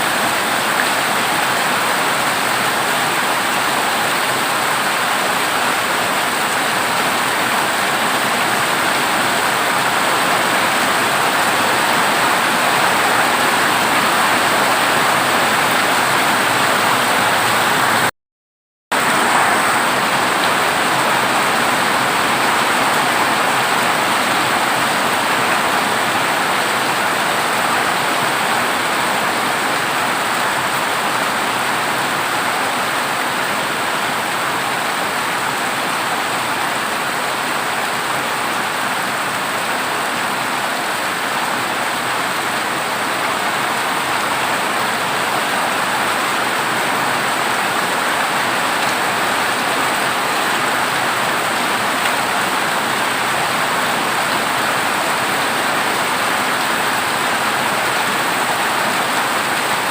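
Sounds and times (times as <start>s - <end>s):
heavy rain on a metal roof: 0.0s - 18.1s, 18.9s - 59.9s.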